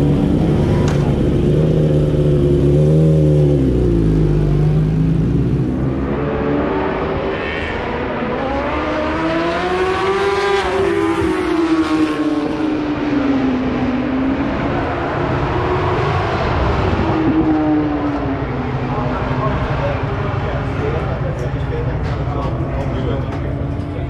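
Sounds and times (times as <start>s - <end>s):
superbike engine at high revs: 0.0s - 21.4s.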